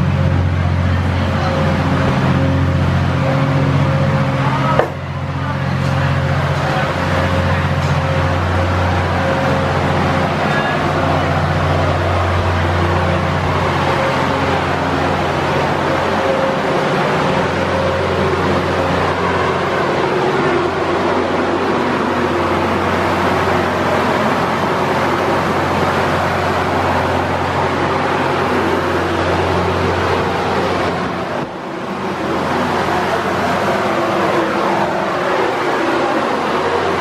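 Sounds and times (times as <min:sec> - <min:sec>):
loud engine drone: 0:00.0 - 0:37.0.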